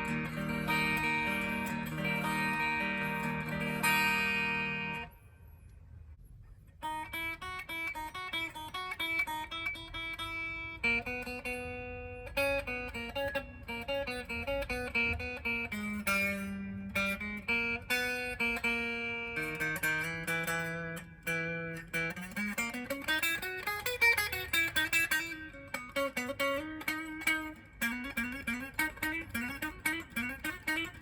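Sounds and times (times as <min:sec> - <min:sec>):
electric guitar through amp: 0:00.0 - 0:05.6, 0:07.0 - 0:31.0.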